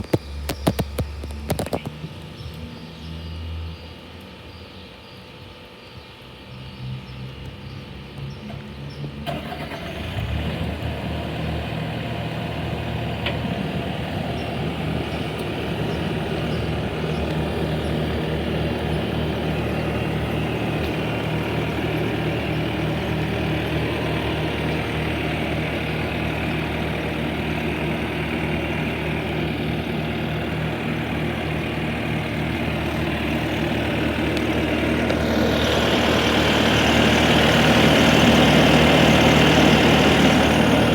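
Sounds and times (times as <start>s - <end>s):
diesel engine cranking and idling: 0.0s - 3.8s, 8.0s - 40.9s.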